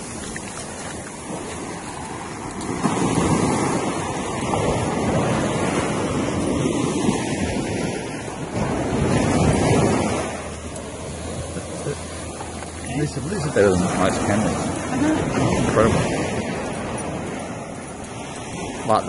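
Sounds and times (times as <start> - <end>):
sea surf: 0.0 - 19.0
wind: 0.0 - 19.0.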